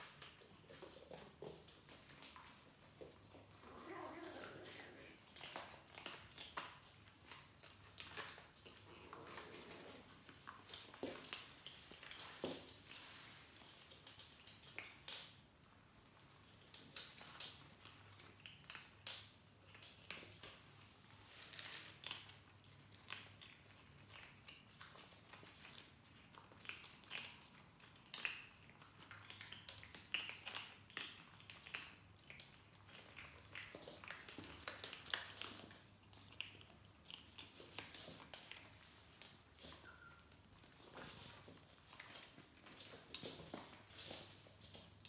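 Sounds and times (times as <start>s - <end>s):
kittens crunching dry kibble: 0.0s - 45.0s.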